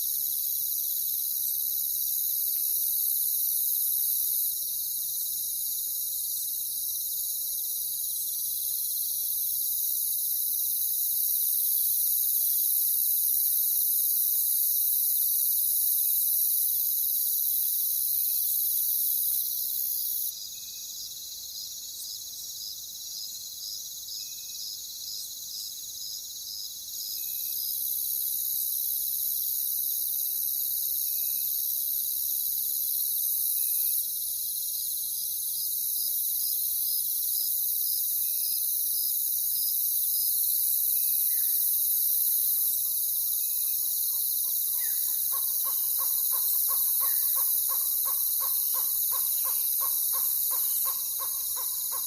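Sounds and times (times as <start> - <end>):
rhythmic insect chirp: 0.0 - 52.0.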